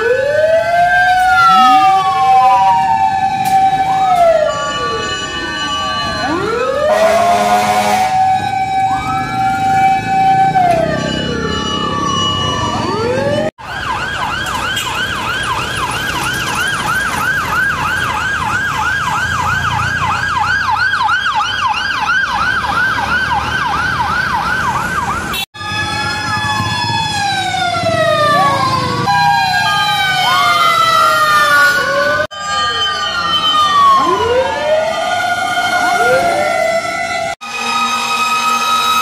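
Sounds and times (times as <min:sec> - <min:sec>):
fast yelp siren: 0:00.0 - 0:39.0
wailing sirens: 0:00.0 - 0:39.0.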